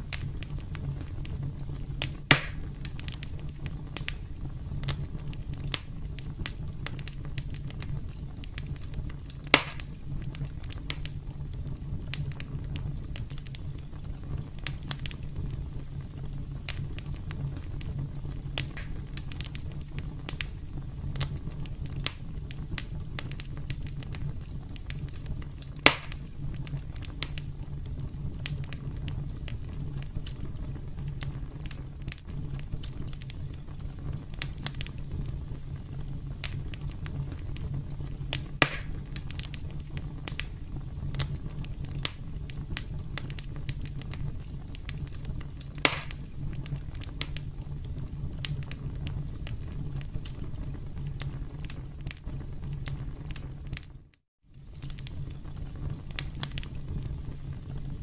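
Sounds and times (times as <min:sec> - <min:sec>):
campfire crackling: 0:00.0 - 0:58.0
loud fire pops: 0:00.0 - 0:58.0.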